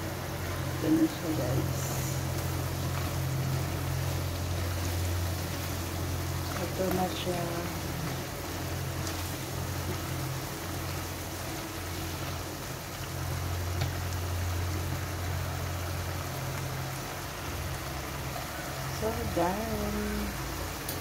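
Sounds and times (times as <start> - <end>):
steady low hum: 0.0 - 20.7
stew simmering and bubbling: 0.0 - 21.0.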